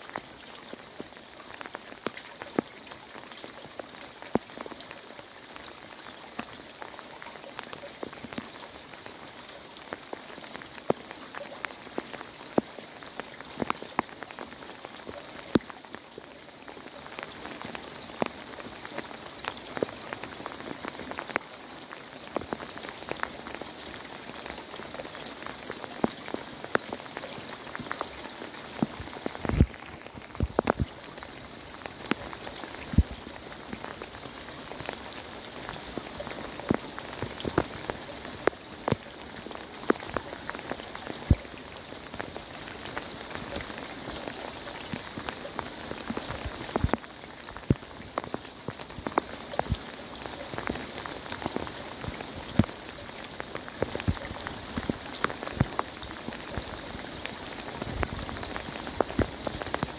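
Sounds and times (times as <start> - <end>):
heavy rain: 0.0 - 59.9
raindrops tapping nearby: 0.0 - 59.9.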